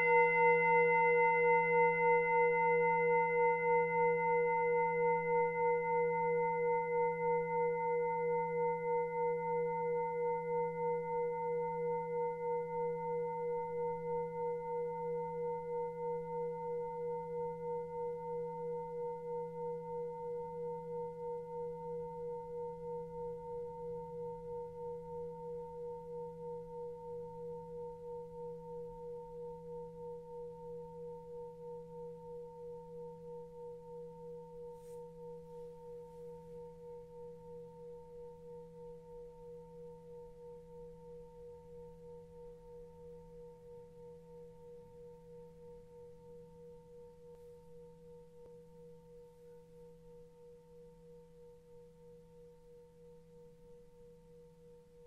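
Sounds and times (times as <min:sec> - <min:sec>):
singing bowl ringing: 0:00.0 - 0:47.2.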